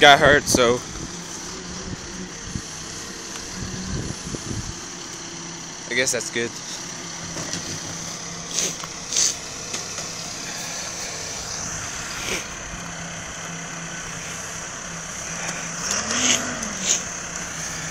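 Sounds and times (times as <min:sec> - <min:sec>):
truck engine idling: 0:00.0 - 0:17.9.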